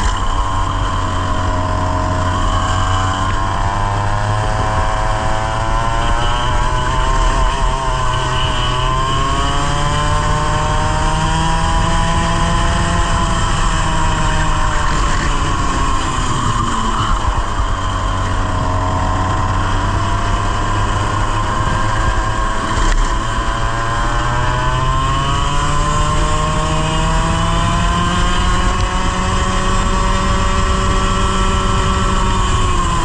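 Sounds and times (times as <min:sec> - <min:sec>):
kart engine at speed: 0:00.0 - 0:33.0.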